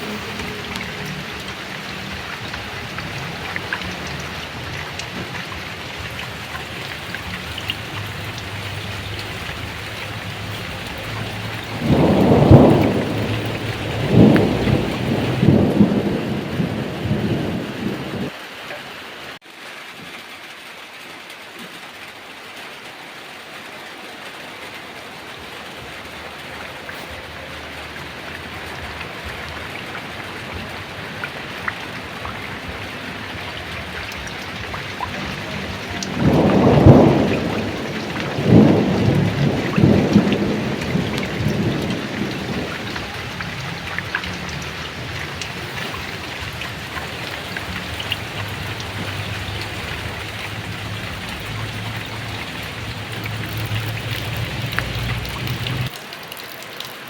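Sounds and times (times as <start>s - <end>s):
thunder rumbling: 0.0s - 18.4s, 25.2s - 55.9s
heavy rain falling: 0.0s - 57.0s.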